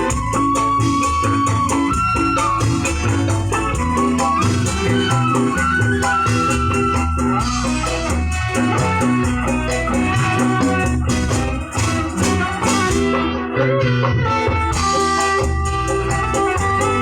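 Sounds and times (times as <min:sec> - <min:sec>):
band music through sound system: 0:00.0 - 0:17.0.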